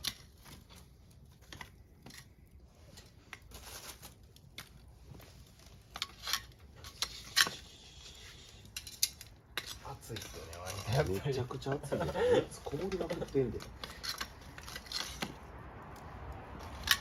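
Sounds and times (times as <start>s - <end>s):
campfire crackling and snapping: 0.0s - 17.0s.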